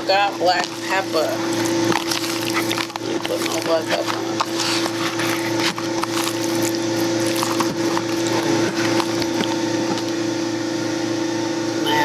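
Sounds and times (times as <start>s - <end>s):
steady low hum: 0.0s - 12.0s
wet squishing of raw chicken: 0.4s - 10.2s.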